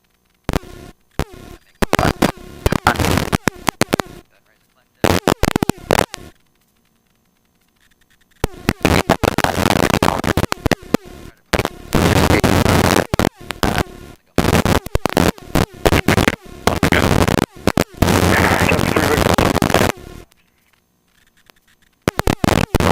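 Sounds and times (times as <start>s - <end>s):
helicopter noise: 1.1s - 22.9s.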